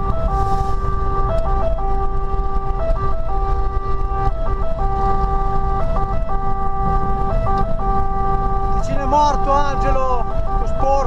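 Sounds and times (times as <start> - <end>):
truck engine and tyres rumbling: 0.0 - 11.0
two-tone fire engine siren: 0.0 - 11.0.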